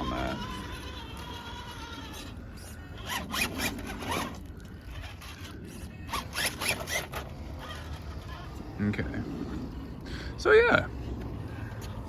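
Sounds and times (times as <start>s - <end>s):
rc car motor whining: 0.0s - 12.0s.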